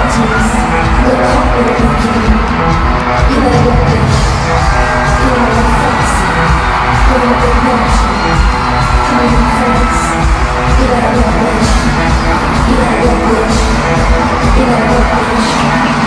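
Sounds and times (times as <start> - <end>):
crowd yelling: 0.0 - 16.0
live dance-pop music: 0.0 - 16.0.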